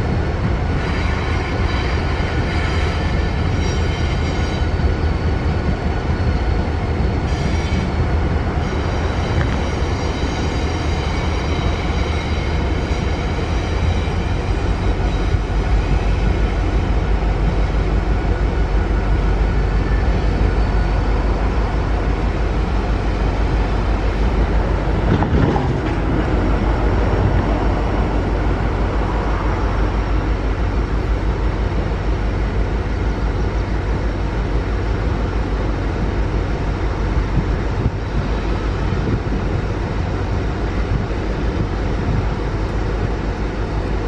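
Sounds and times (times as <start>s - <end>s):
freight train rumbling on rails: 0.0s - 44.0s.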